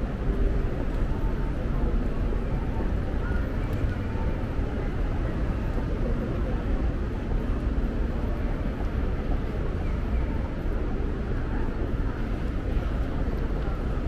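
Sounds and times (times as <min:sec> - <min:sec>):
murmur of passers-by: 0:00.0 - 0:14.0.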